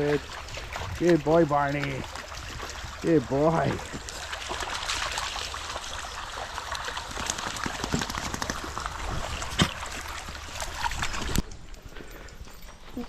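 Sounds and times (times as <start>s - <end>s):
water trickling: 0.0s - 11.8s.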